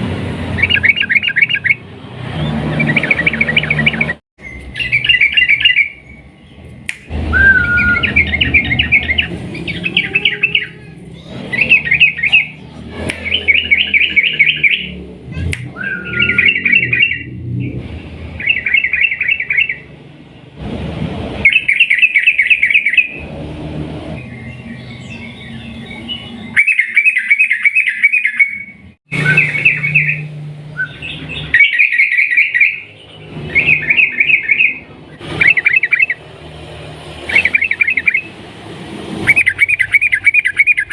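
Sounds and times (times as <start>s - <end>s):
bird singing chattering phrases: 0.5s - 19.9s, 24.2s - 36.2s, 37.2s - 38.4s, 39.3s - 40.9s.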